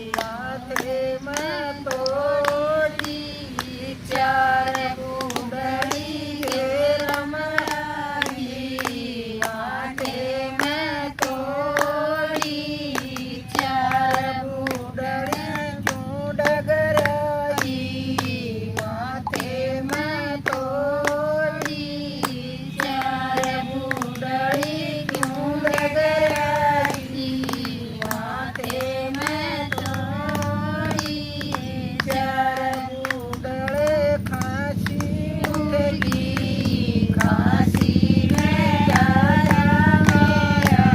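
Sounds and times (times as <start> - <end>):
hand claps: 0.0 - 40.9
woman singing folk song: 0.0 - 40.9.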